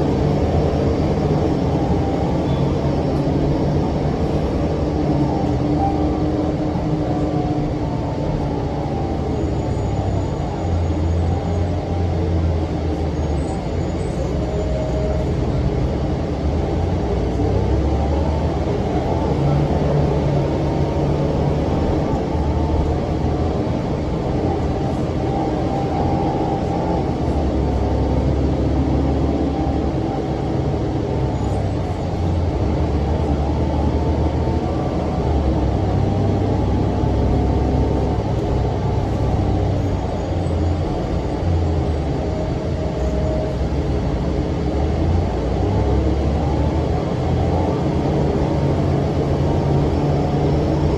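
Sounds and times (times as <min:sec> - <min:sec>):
bus diesel engine droning: 0:00.0 - 0:50.9.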